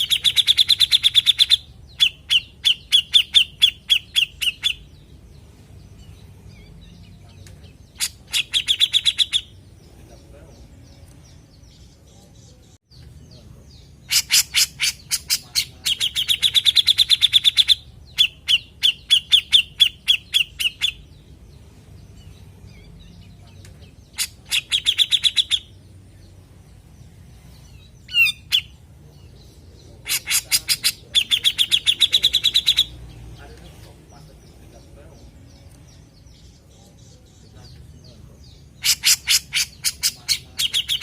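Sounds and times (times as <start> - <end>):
bird song with rapid trill: 0.0 - 41.0.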